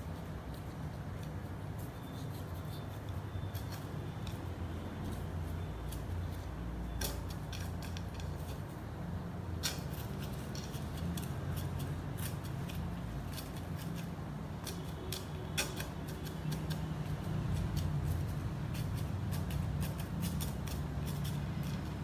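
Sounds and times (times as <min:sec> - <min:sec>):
stick scratching in soil: 0:00.0 - 0:22.0.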